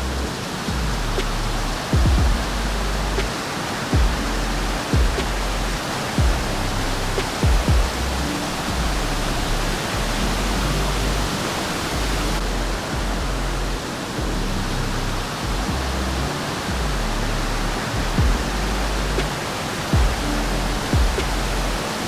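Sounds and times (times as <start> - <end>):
low thumps: 0.0 - 3.4, 4.0 - 11.3, 11.9 - 19.4, 20.0 - 21.9
low background music: 0.0 - 22.0
waterfall rushing water: 0.0 - 22.0.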